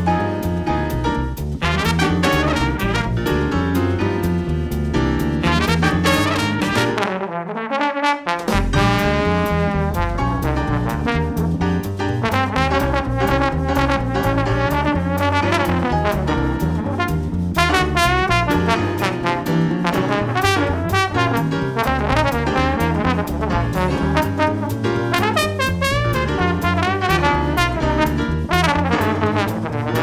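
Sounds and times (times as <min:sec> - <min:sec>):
upbeat jazzy brass music: 0:00.0 - 0:30.0.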